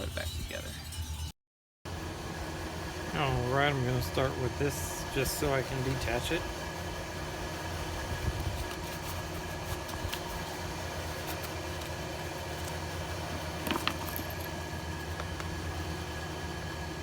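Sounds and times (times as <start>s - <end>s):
machine hum: 1.9s - 17.0s.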